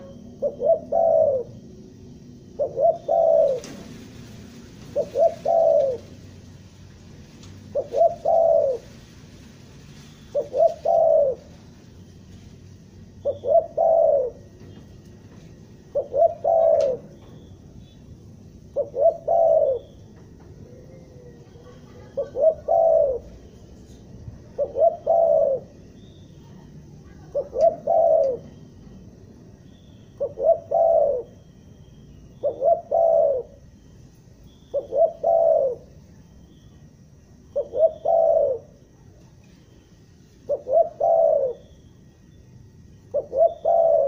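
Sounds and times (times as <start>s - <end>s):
dove cooing: 0.0s - 6.5s, 7.4s - 9.0s, 10.0s - 11.7s, 13.1s - 14.8s, 15.5s - 28.9s, 29.7s - 33.9s, 34.5s - 38.9s, 40.4s - 41.9s, 42.9s - 44.0s.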